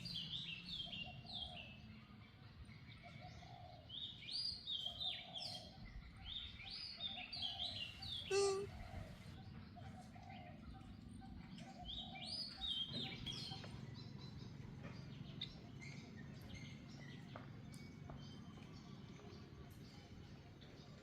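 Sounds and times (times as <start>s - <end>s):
faint high chirping calls: 0.0s - 21.0s.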